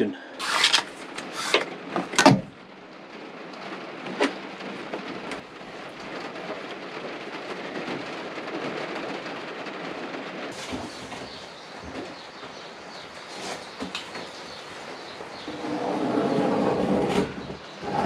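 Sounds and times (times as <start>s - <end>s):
steady rain falling: 0.8s - 18.0s.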